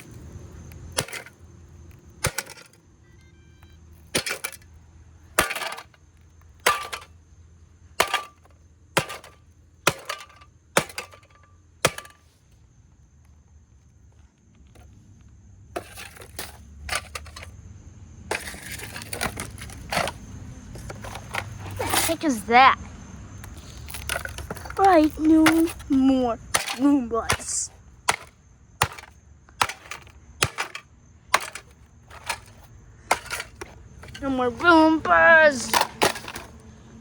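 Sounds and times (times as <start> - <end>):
loose parts clattering and scraping: 0.0 - 12.6, 14.0 - 15.0, 15.8 - 17.6, 18.3 - 36.8.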